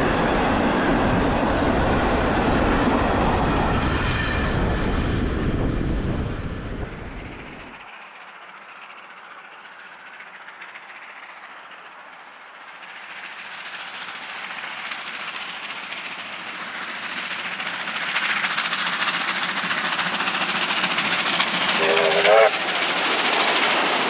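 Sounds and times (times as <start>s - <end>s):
passenger train approaching: 0.0s - 24.0s.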